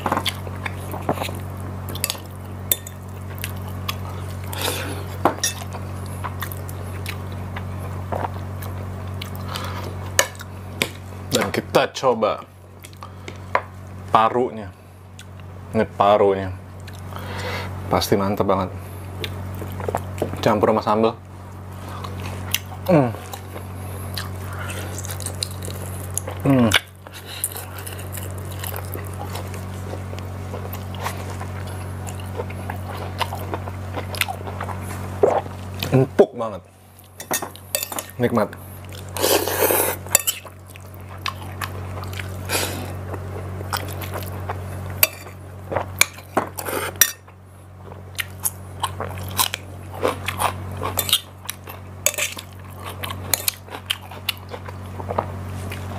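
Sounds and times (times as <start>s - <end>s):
person chewing food: 0.0s - 11.0s, 12.8s - 13.7s, 16.8s - 17.5s, 19.0s - 20.4s, 21.7s - 36.1s, 36.9s - 55.9s
steady low hum: 0.0s - 55.9s.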